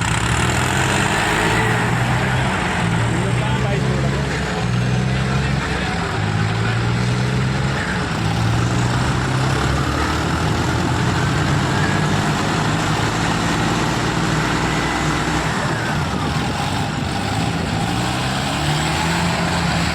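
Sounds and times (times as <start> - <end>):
tractor diesel engines running: 0.0 - 19.9.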